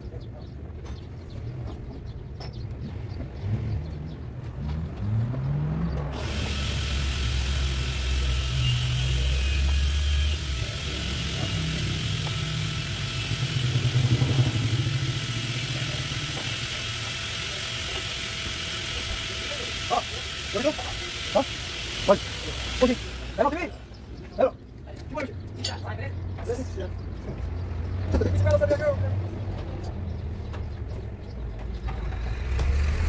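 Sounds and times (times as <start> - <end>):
engine revving: 2.8 - 24.5, 27.4 - 33.0.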